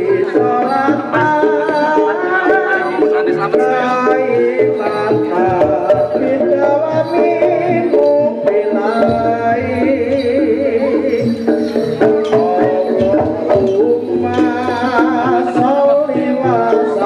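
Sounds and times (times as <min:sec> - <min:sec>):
busy melody: 0:00.0 - 0:17.0
quick hand-drum strokes: 0:00.0 - 0:17.0.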